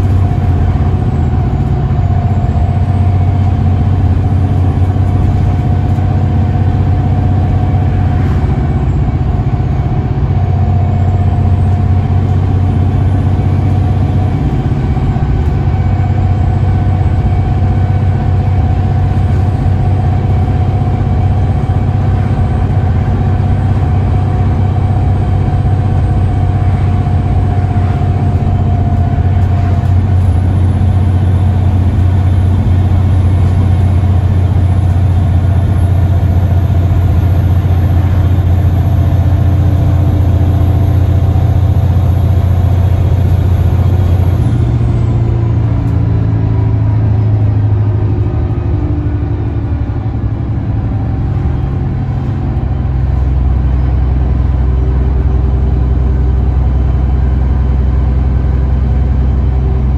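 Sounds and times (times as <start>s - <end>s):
bus diesel engine: 0.0s - 59.9s
deep low drone: 0.0s - 59.9s
high whine: 0.0s - 59.9s.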